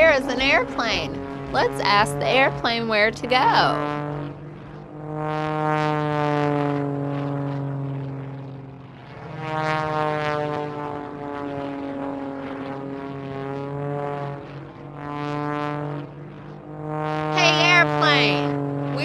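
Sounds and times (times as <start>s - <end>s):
propeller airplane engine drone: 0.0s - 19.0s.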